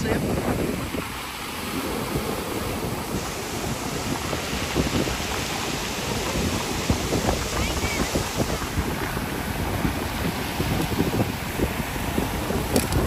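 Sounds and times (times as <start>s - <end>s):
surf washing over pebbles: 0.0s - 13.0s
wind rumbling on microphone: 0.0s - 13.0s.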